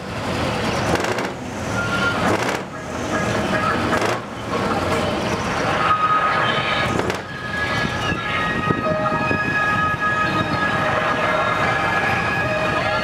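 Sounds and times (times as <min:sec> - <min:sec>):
diesel trucks idling: 0:00.0 - 0:13.0.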